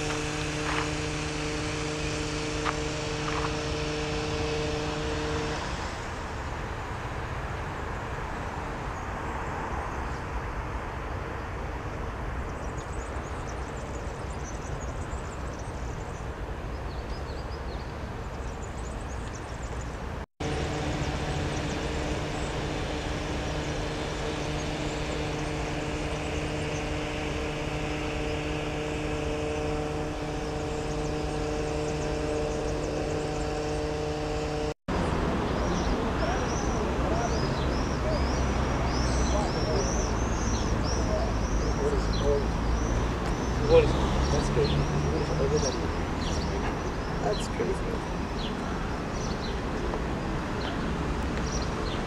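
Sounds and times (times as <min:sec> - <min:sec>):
vehicle rushing hum: 0:00.0 - 0:16.8, 0:18.0 - 0:52.0
engine drone: 0:00.0 - 0:52.0.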